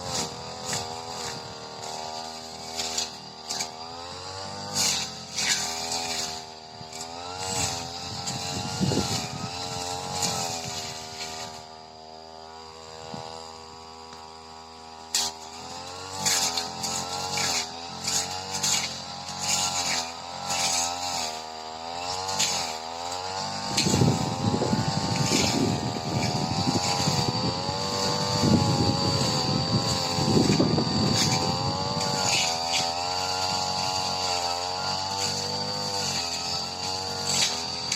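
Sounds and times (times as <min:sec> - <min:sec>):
blade rattling through thick grass: 0:00.0 - 0:37.9
brush cutter engine revving: 0:00.0 - 0:37.9.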